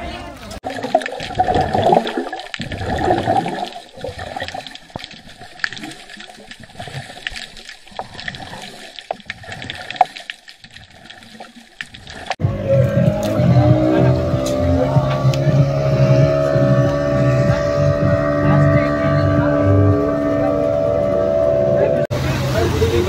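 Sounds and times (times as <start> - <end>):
underwater bubbling and gurgling: 0.5 - 23.0.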